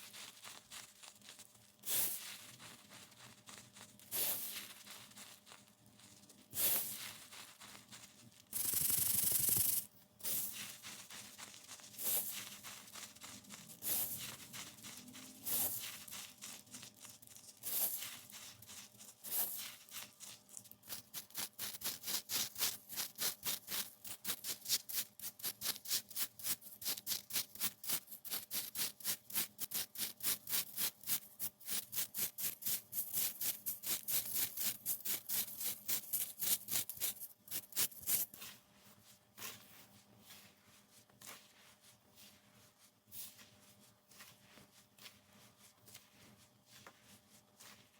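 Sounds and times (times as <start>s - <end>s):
baked baking soda crunching: 0.0s - 47.9s.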